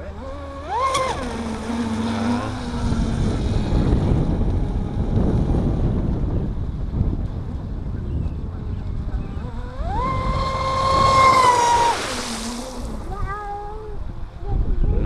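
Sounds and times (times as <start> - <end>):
electric motor whining: 0.0 - 6.3, 8.3 - 14.9
wind buffeting microphone: 0.0 - 15.0.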